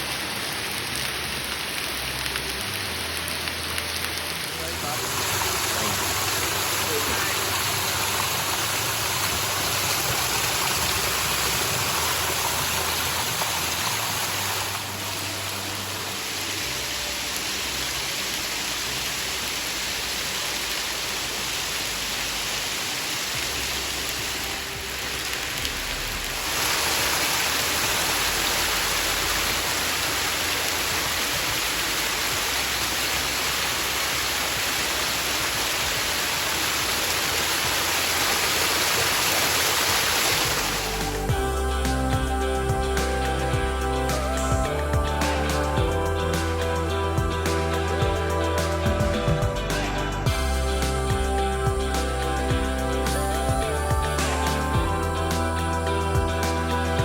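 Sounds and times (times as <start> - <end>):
spring water pouring and splashing: 0.0 - 57.0.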